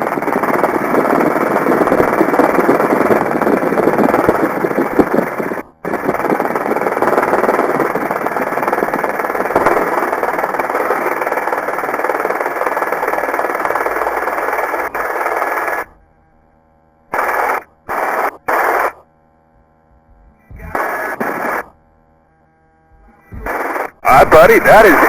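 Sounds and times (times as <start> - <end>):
helicopter cabin noise over intercom: 0.0 - 16.2, 19.7 - 22.2, 22.9 - 25.0.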